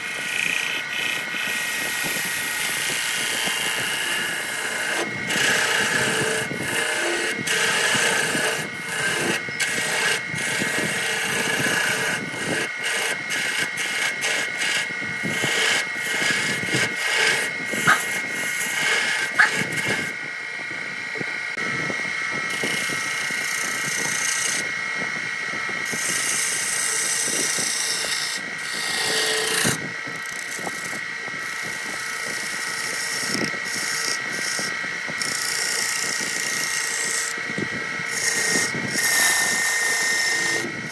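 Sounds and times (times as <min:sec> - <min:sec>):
turning tool rasping on wood: 0:00.0 - 0:20.2, 0:21.5 - 0:24.8, 0:25.5 - 0:40.9
wood lathe motor whine: 0:00.0 - 0:40.9.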